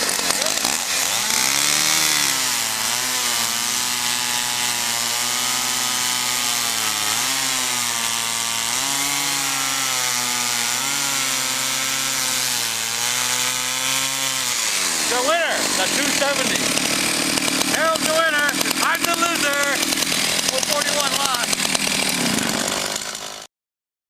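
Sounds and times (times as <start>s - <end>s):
chainsaw cutting through log: 0.0s - 23.5s.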